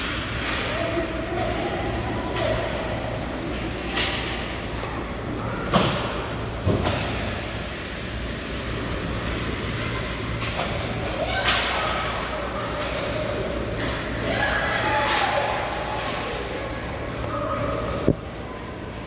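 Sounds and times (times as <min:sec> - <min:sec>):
hum of a large rink: 0:00.0 - 0:19.0.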